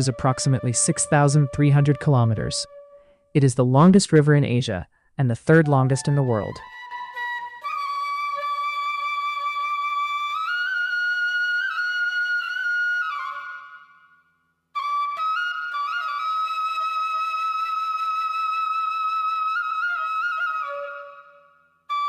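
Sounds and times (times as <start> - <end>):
slow solo flute melody: 0.0 - 3.3, 6.0 - 22.0.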